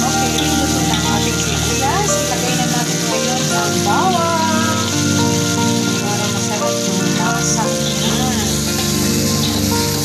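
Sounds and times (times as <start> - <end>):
background music: 0.0 - 10.0
onions sizzling in hot oil: 0.0 - 10.0.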